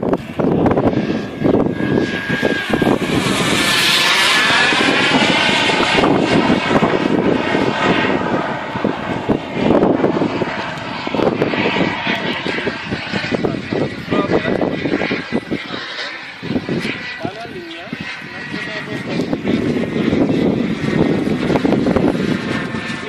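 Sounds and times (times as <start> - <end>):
jet turbine whine flying past: 0.0 - 23.0
wind buffeting microphone: 0.0 - 23.0.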